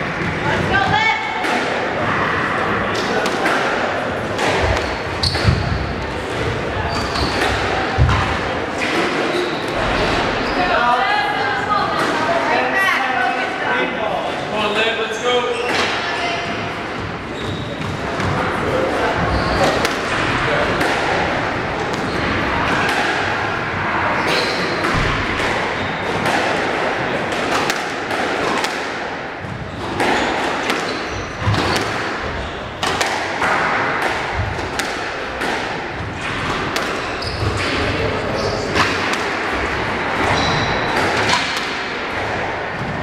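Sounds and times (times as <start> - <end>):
squash ball hitting racquets: 0.0 - 10.2, 15.6 - 43.0
sneakers squeaking: 2.9 - 11.2, 15.1 - 43.0.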